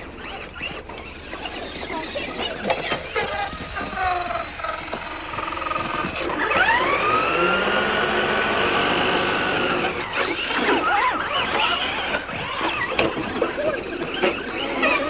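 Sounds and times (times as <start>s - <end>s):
toy car electric motor whining: 0.0s - 15.0s.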